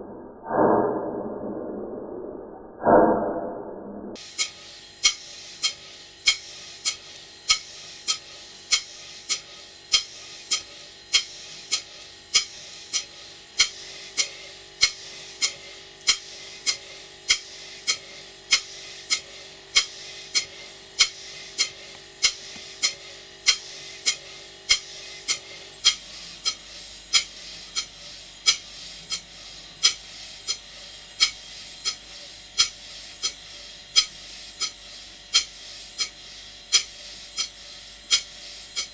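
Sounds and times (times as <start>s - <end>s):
model steam engine running: 4.2s - 38.9s.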